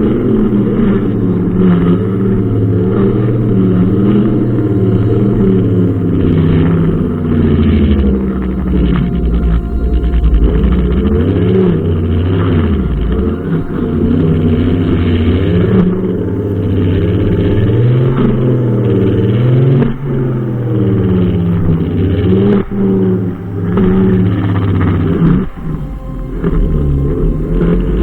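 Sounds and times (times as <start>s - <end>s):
brushcutter engine revving: 0.0s - 28.0s.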